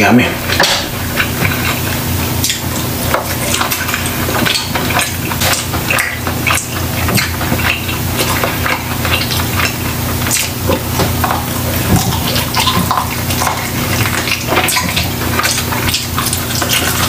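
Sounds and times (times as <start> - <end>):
low steady hum: 0.0 - 17.0
close chewing and mouth smacks: 0.5 - 17.0.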